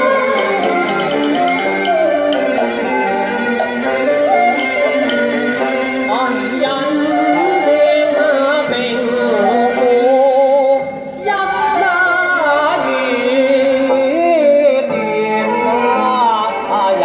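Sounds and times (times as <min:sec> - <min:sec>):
music with sung melody: 0:00.0 - 0:17.0.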